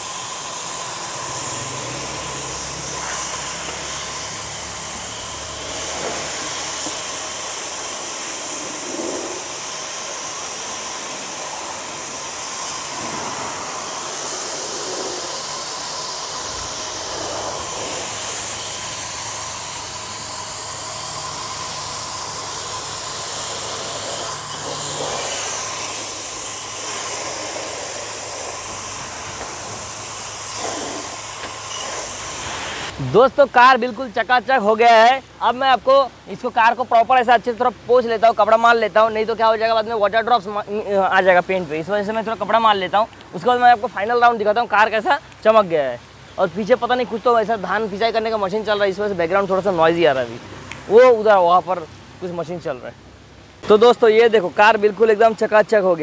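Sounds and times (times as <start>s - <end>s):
pressure washer spraying car: 0.0s - 45.6s.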